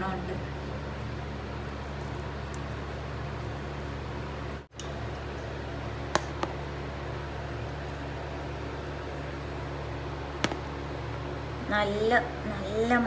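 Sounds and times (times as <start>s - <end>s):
fan-like room hum: 0.0s - 13.0s.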